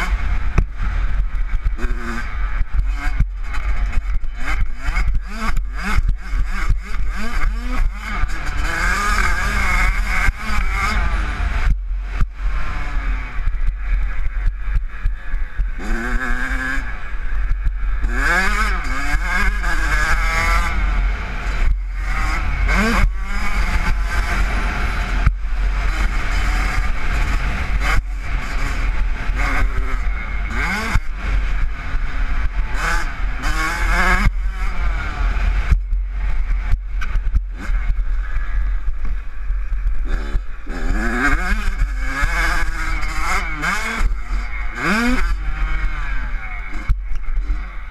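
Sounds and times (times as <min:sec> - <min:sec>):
two-stroke engine revving: 0:00.0 - 0:47.9
wind rumble on microphone: 0:00.0 - 0:47.9.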